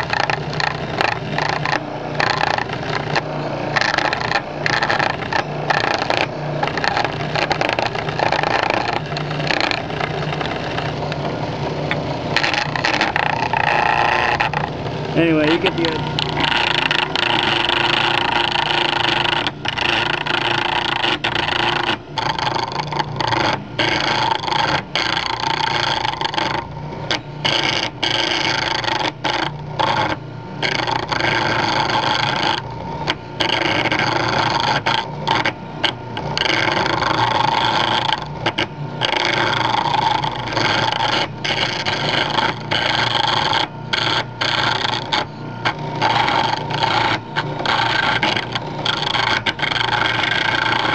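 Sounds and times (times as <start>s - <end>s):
chisel scraping spinning wood: 0.0s - 50.9s
motor humming: 0.0s - 50.9s.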